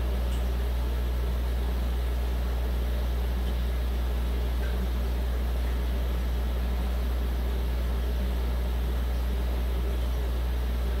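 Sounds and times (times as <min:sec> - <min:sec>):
aquarium equipment humming: 0:00.0 - 0:11.0.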